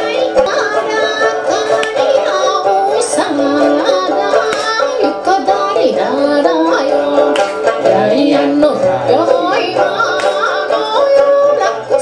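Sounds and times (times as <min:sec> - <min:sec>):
keyboard accompaniment: 0:00.0 - 0:12.0
plucked lute: 0:00.0 - 0:12.0
woman singing: 0:00.0 - 0:12.0.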